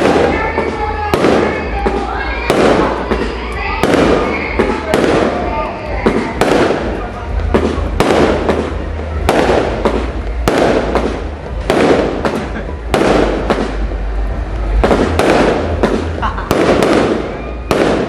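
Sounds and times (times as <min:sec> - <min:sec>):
firework shots with hiss: 0:00.0 - 0:18.0.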